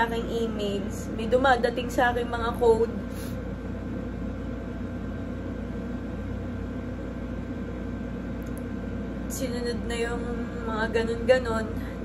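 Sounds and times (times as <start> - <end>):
low room rumble and hum: 0.0 - 12.0.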